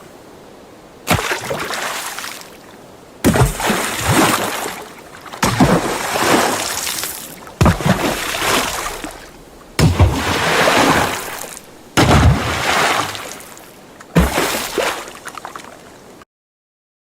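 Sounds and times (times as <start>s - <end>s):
splashes into water: 1.0s - 15.9s.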